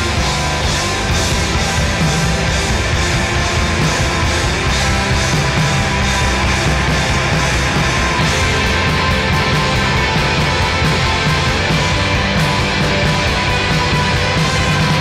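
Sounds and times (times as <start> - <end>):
post-rock band playing: 0.0 - 15.0.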